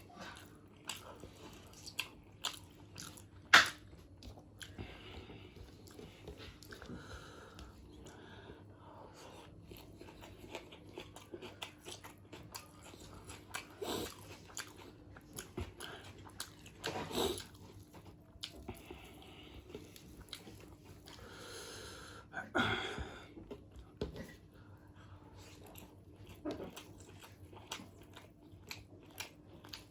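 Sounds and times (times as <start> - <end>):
close chewing and biting: 0.0 - 8.2, 9.3 - 21.3, 23.4 - 29.9.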